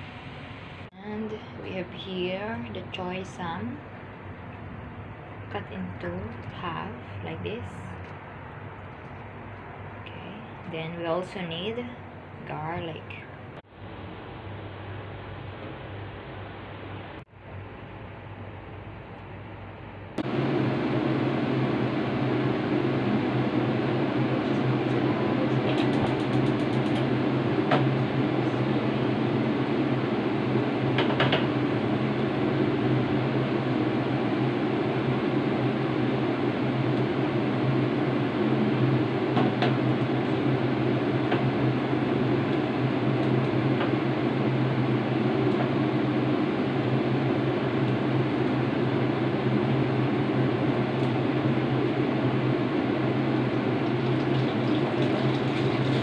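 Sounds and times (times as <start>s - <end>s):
kitchen fan humming: 0.0s - 56.0s.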